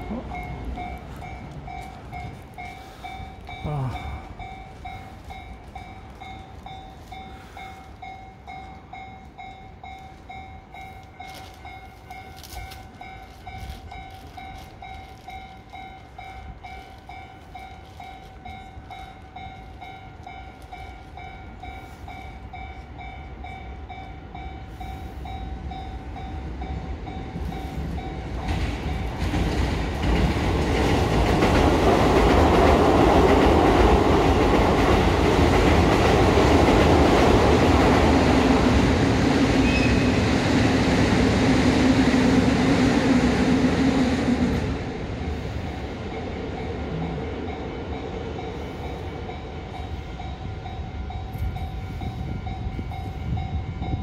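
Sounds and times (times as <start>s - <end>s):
level-crossing warning bell: 0.0s - 40.7s, 44.6s - 54.0s
train rumble: 0.0s - 54.0s.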